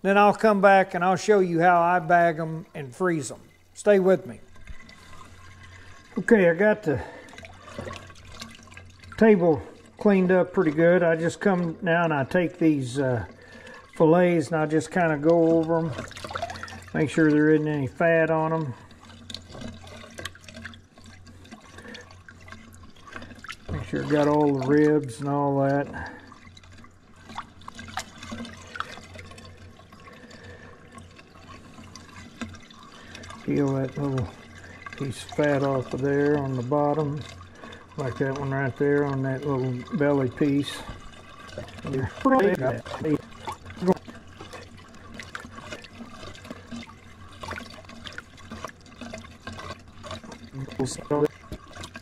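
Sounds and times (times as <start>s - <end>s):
small water splashes: 0.0s - 52.0s
water sloshing in a sink: 0.0s - 52.0s.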